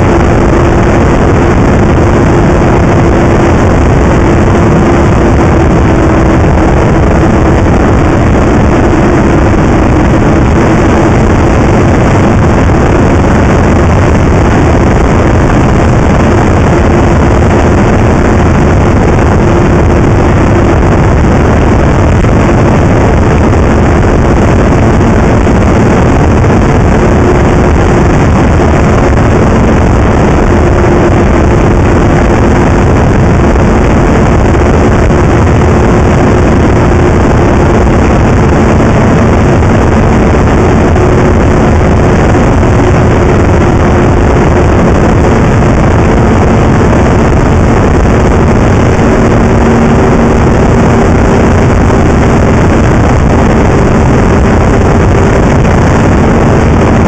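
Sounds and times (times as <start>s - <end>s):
snowmobile engine running: 0.0s - 57.0s
wind noise on microphone: 0.0s - 57.0s.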